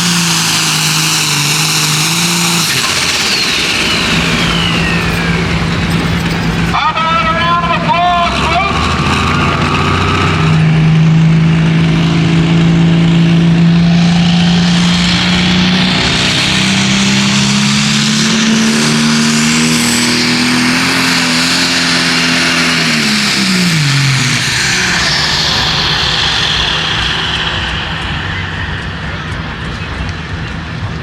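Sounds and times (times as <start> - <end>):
high whine: 0.0 - 31.0
tractor engine at full throttle: 0.0 - 31.0.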